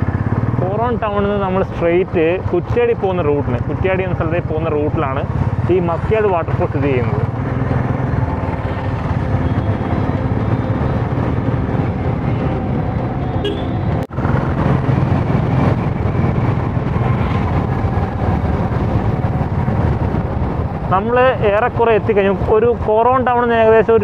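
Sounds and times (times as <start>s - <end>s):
vehicle engine driving: 0.0s - 24.0s.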